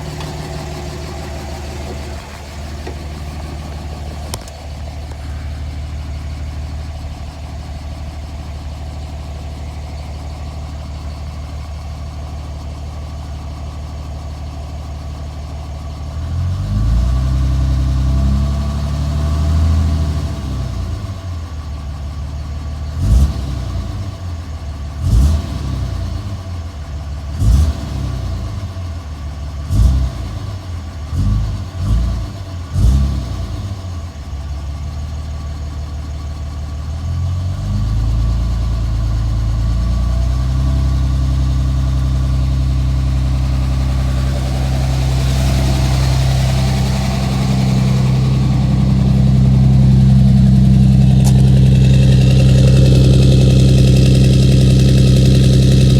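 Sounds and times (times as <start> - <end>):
diesel engine rough idle: 0.0 - 55.9.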